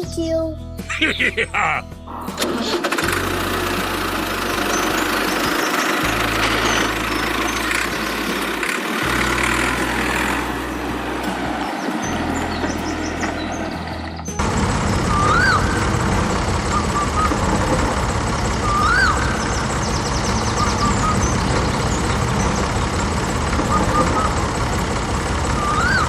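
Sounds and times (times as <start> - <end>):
engine running steadily: 1.0 - 26.0.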